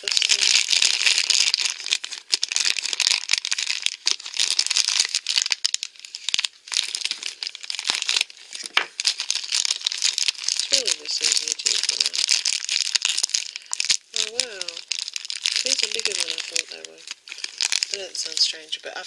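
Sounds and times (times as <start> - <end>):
plastic wrapper crinkling and tearing: 0.0 - 19.0.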